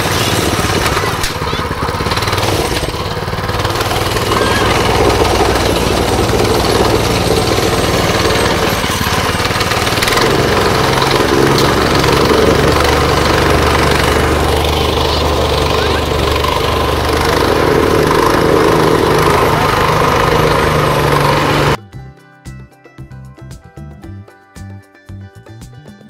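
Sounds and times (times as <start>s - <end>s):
plate compactor pounding: 0.0s - 21.8s.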